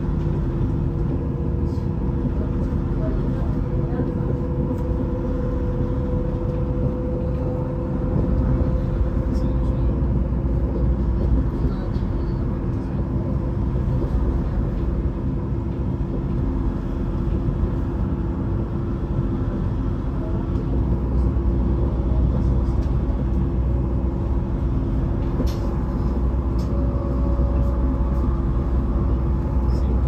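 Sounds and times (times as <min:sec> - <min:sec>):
constant hum: 0:00.0 - 0:30.0
train rumbling: 0:00.0 - 0:30.0.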